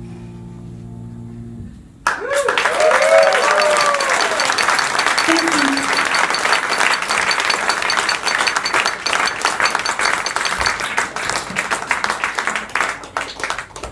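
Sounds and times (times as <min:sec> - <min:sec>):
audience applauding: 0:02.0 - 0:13.9.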